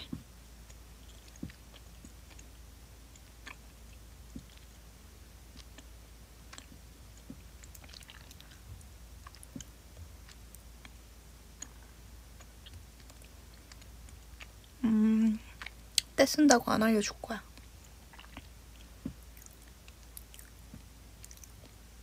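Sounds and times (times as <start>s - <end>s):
mouth and lip clicks: 0.0s - 16.2s, 17.5s - 21.8s
steady low hum: 0.0s - 22.0s.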